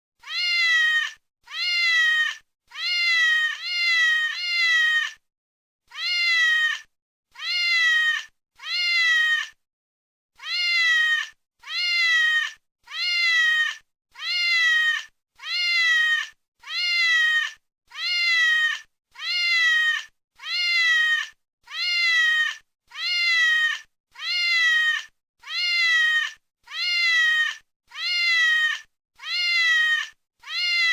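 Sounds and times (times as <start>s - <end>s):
cat meowing: 0.2s - 5.2s, 5.9s - 9.6s, 10.4s - 30.9s.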